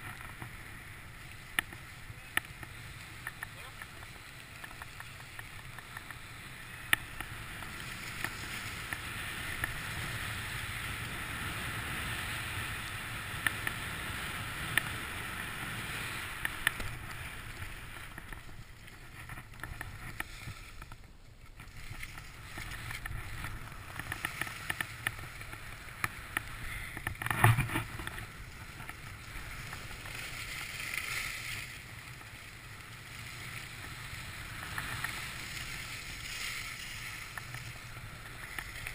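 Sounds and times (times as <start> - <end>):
skis sliding through snow: 0.0 - 38.9.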